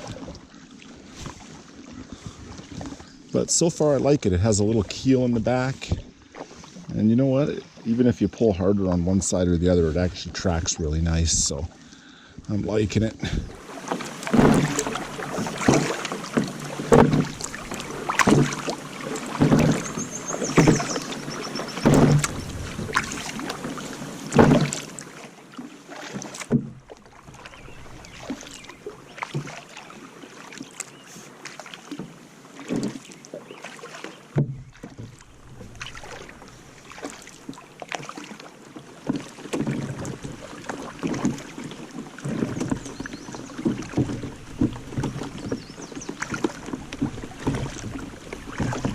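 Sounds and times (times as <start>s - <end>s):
paddle knocking: 0.0s - 8.4s, 9.3s - 48.9s
paddles pulling through water: 0.0s - 48.9s.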